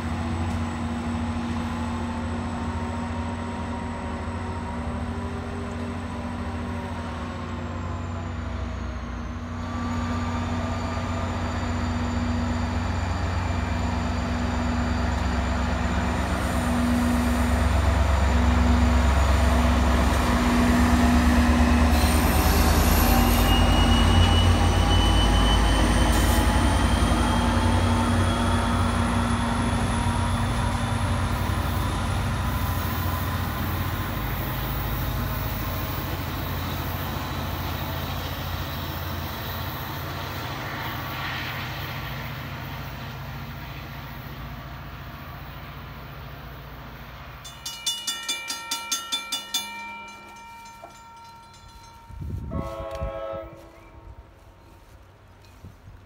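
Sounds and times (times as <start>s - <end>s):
diesel train passing: 0.0s - 56.0s.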